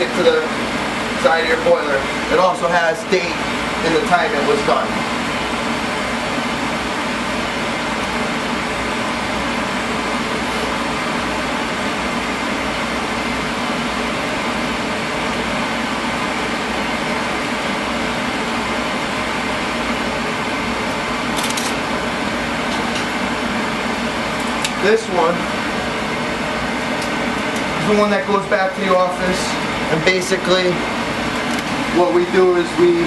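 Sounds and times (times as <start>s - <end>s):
oil boiler burner running: 0.0s - 33.0s.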